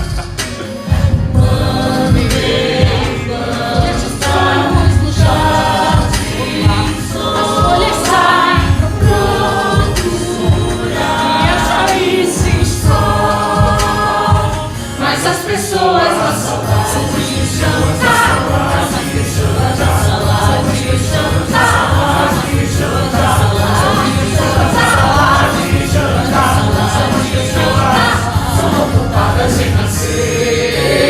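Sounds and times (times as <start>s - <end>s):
band with steady beat: 0.0s - 15.1s, 16.1s - 30.3s
choir singing: 0.0s - 31.0s.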